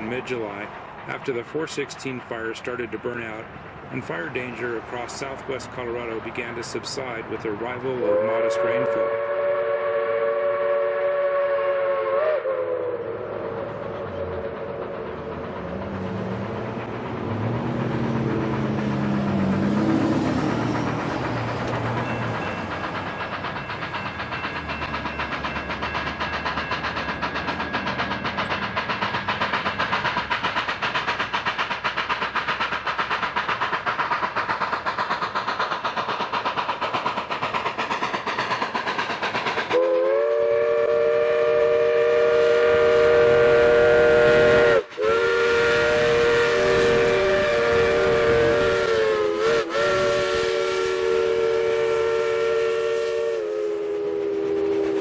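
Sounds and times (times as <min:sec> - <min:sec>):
steam locomotive chugging: 0:00.0 - 0:55.0.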